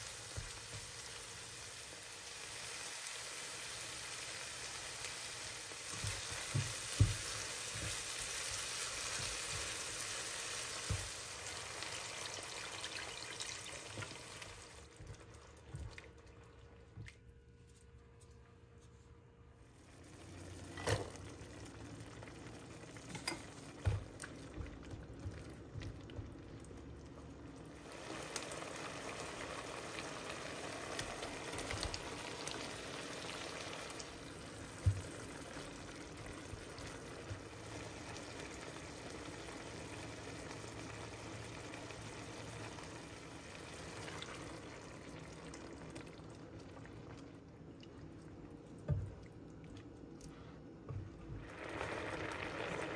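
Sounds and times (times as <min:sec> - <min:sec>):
liquid bubbling and sizzling in pan: 0:00.0 - 0:52.9.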